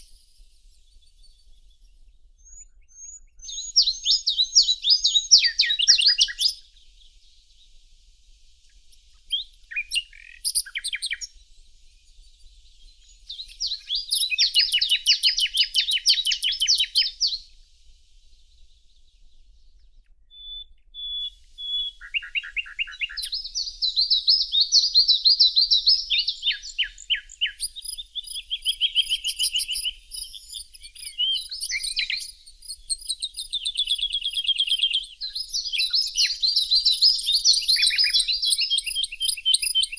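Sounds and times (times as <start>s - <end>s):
songbirds trilling: 0.0s - 7.7s, 8.8s - 17.7s, 20.4s - 39.9s.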